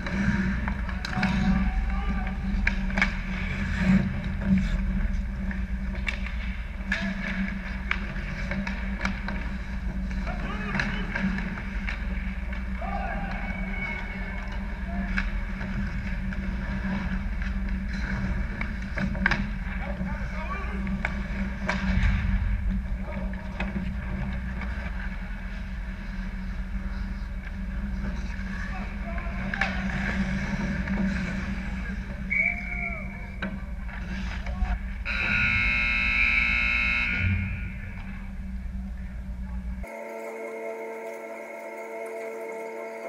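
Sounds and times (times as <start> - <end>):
hockey sticks and puck clacking: 0.0 - 36.6
skates scraping ice: 0.0 - 37.4
steady low hum: 0.0 - 39.9.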